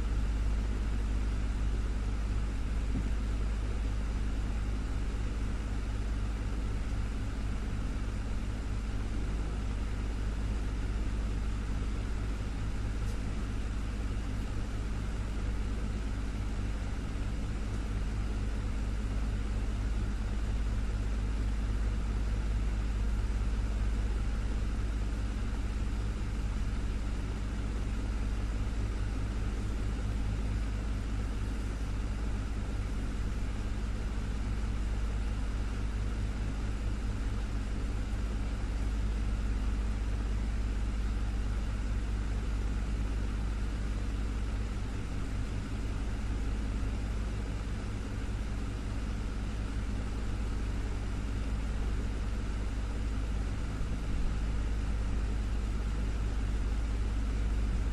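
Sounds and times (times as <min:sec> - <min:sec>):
desktop fan running: 0:00.0 - 0:57.9.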